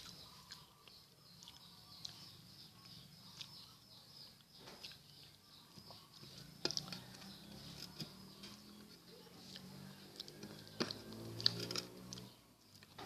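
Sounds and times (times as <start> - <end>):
close chewing: 0.0 - 13.0.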